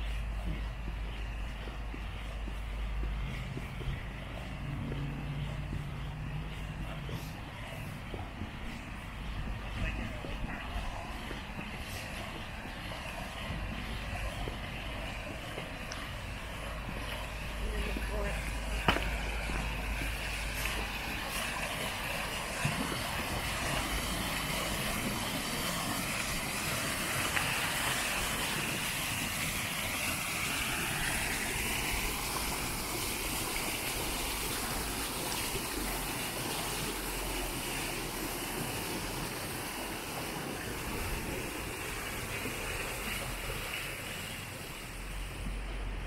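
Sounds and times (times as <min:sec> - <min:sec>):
fountain water splashing: 0:00.0 - 0:46.0
traffic noise: 0:00.0 - 0:46.0.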